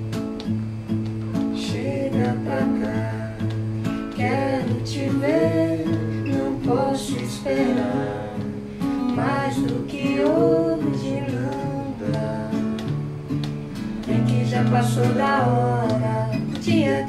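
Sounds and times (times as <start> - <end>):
acoustic guitars strumming: 0.0 - 17.0
person singing: 1.5 - 13.0, 13.9 - 17.0.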